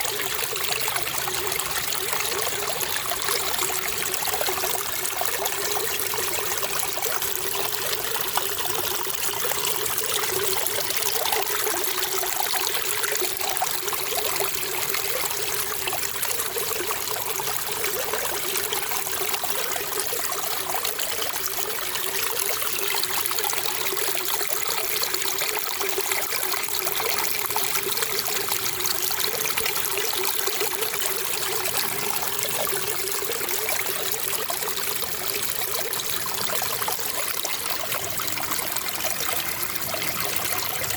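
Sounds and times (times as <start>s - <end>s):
running water trickling: 0.0s - 40.9s.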